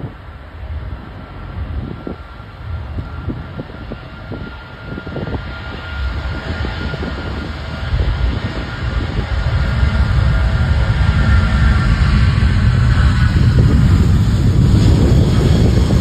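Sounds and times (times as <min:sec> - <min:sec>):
jet engines rumbling and whining: 0:00.0 - 0:16.0.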